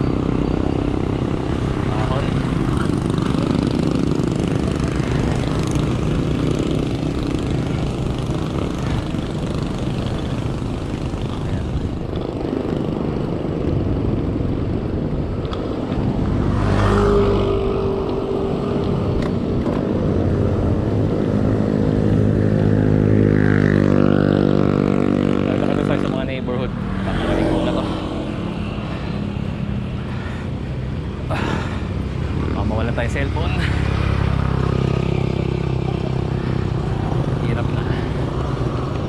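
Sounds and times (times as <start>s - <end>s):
street traffic rush: 0.0s - 39.0s
vehicle engines passing: 0.0s - 39.0s.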